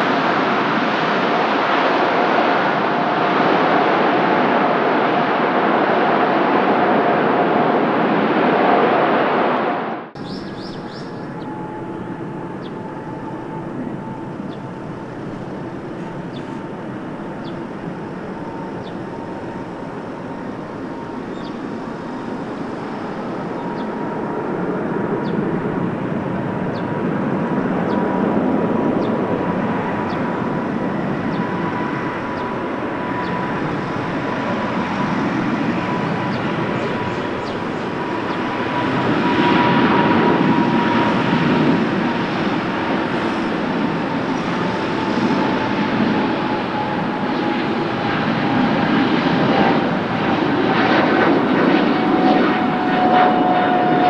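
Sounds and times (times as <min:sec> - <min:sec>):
jet engines rumbling with whine: 0:00.0 - 0:54.0
loud jet noise: 0:00.0 - 0:54.0.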